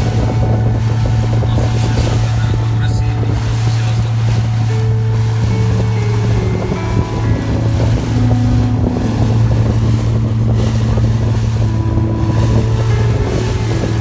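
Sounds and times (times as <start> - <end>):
boat engine humming: 0.0 - 14.0
wind buffeting microphone: 0.0 - 14.0.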